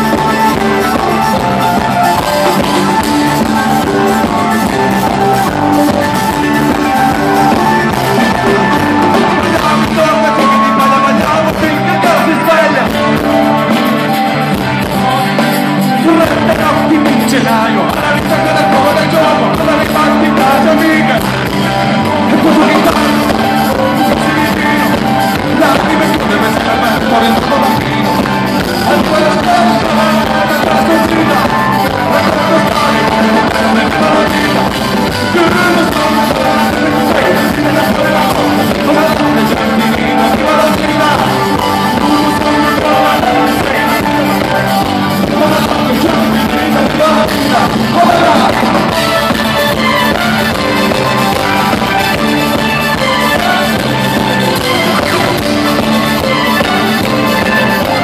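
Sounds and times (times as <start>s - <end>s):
live folk-rock band: 0.0s - 58.0s.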